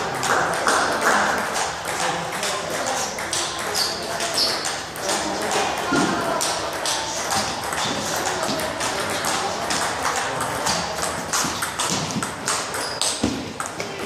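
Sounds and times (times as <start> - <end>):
ball bouncing on table: 0.0 - 14.0
ball clicking off bats: 0.0 - 14.0.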